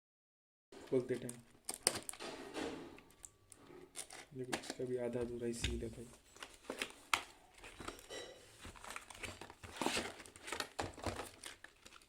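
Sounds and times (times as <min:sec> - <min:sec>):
plastic packaging crinkling: 0:00.9 - 0:02.3, 0:03.0 - 0:12.0.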